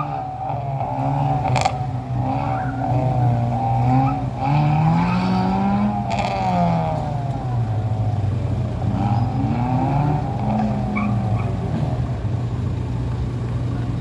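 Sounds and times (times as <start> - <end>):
tyres squealing: 0.0 - 12.6
car engine running: 0.0 - 14.0.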